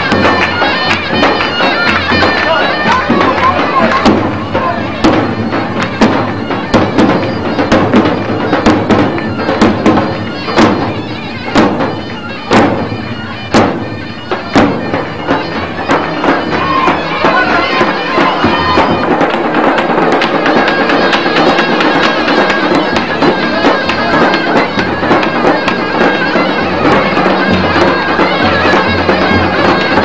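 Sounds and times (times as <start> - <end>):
wind-instrument melody: 0.0 - 30.0.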